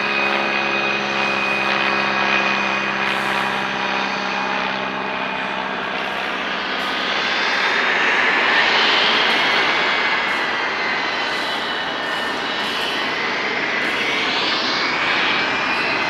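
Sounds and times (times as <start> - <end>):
jet engine passing by: 0.0 - 16.0.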